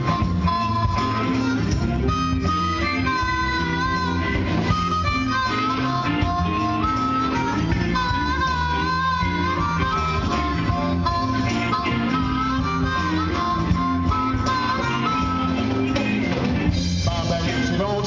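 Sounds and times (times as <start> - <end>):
bass guitar: 0.0 - 18.0
drums: 0.0 - 18.0
electric guitar: 0.0 - 18.0
harmonica bending notes: 0.0 - 18.0.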